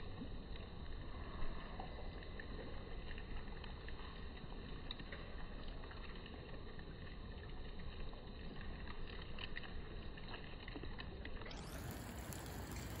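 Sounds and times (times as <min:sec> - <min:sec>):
faint ticks: 0:00.0 - 0:13.0
low rumble and hiss: 0:00.0 - 0:13.0.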